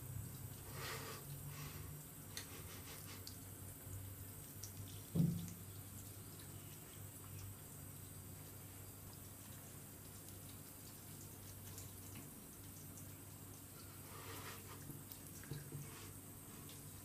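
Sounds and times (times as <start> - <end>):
tap water trickling and splashing: 2.3 - 17.0.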